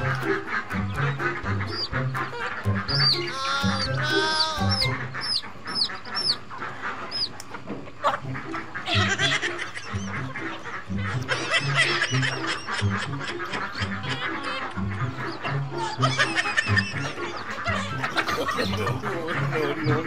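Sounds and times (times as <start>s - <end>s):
background music with bass line: 0.0s - 5.2s, 8.2s - 20.0s
poultry peeping calls: 0.0s - 20.0s.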